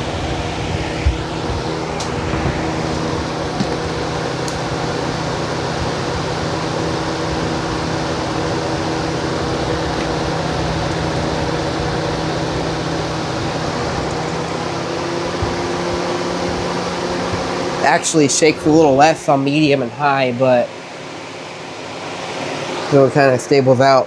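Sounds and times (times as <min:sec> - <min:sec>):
fan air rush: 0:00.0 - 0:24.0
fan motor hum: 0:00.0 - 0:24.0.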